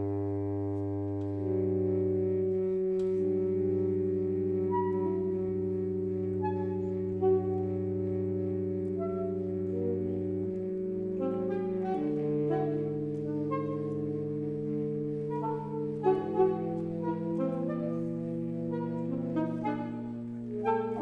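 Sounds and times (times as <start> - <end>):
saxophone quartet playing chords: 0.0 - 21.0.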